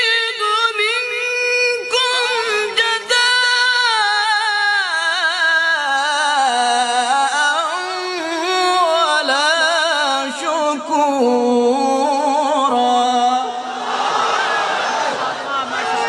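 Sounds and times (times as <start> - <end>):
man chanting recitation: 0.0 - 13.6.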